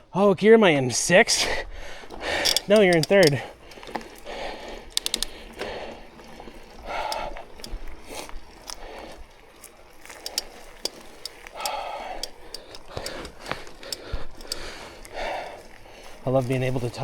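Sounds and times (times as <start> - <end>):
bike drivetrain clicking: 0.6 - 17.0
rider breathing hard: 1.3 - 17.0.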